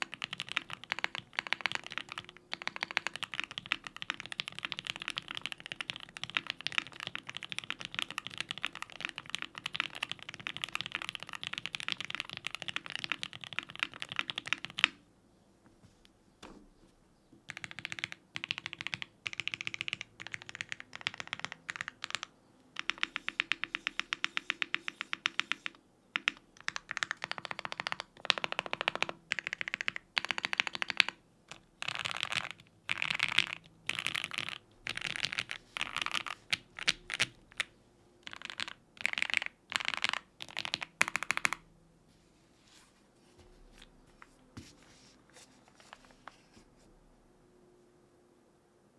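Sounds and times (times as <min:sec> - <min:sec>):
mechanical keyboard typing: 0:00.0 - 0:15.0, 0:17.5 - 0:41.7.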